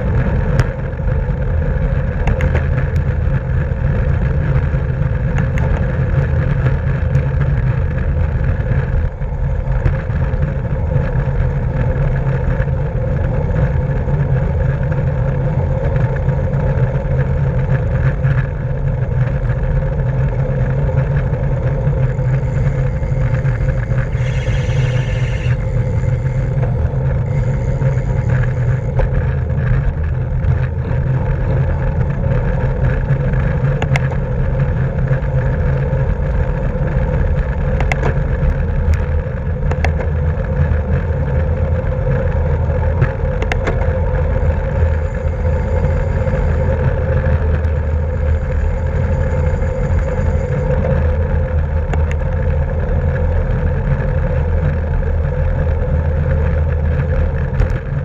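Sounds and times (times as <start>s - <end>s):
bicycle road rumble: 0.0s - 58.0s.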